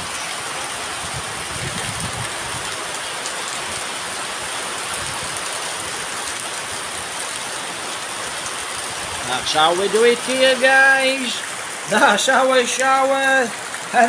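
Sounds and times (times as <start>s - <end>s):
steady rain pouring: 0.0s - 14.0s.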